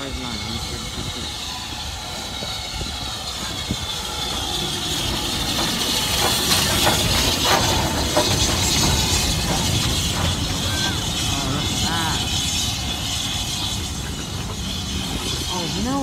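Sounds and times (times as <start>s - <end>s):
locomotive wheels clanking: 0.0s - 16.0s
steam hissing: 0.0s - 16.0s.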